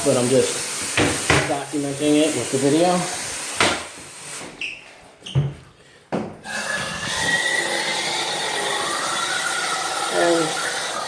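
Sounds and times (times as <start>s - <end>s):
tap water running: 0.0s - 5.4s, 6.4s - 11.0s.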